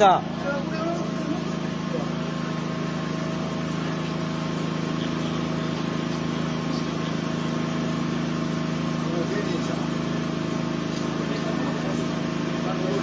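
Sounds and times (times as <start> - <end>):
engine low drone: 0.0 - 13.0.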